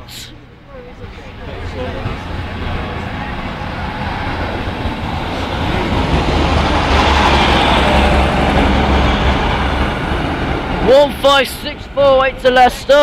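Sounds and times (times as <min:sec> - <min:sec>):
diesel engine drone: 0:00.0 - 0:13.0
train wheels rumbling on rail: 0:01.0 - 0:13.0.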